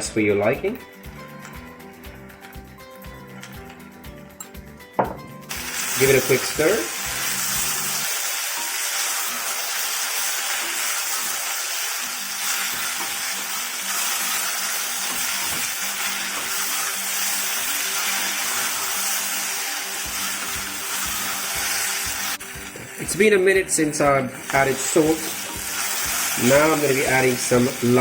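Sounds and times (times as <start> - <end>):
vegetables sizzling in hot oil: 5.5 - 28.0.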